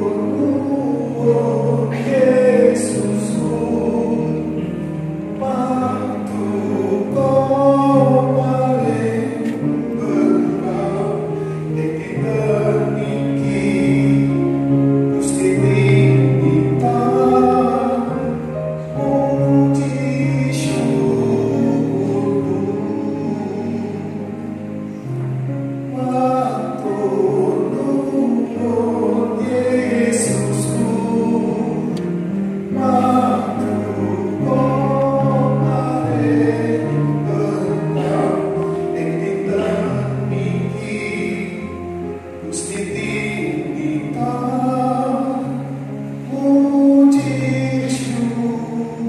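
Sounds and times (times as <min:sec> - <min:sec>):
church choir singing a hymn: 0:00.0 - 0:49.0.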